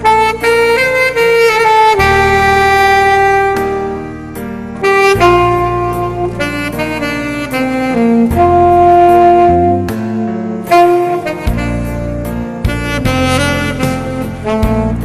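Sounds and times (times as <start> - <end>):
alto saxophone ballad melody: 0.0 - 15.0
bass: 0.0 - 15.0.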